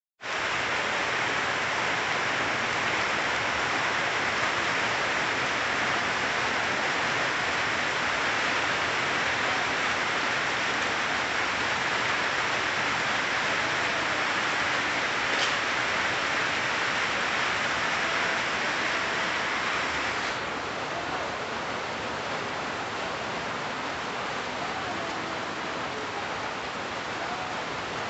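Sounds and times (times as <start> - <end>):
rain falling on leaves: 0.2 - 28.0.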